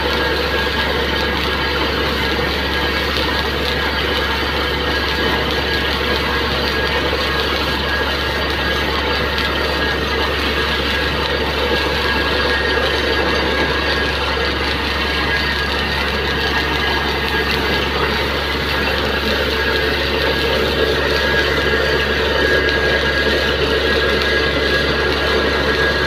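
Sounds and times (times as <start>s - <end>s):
drilling rig engine running: 0.0s - 26.0s.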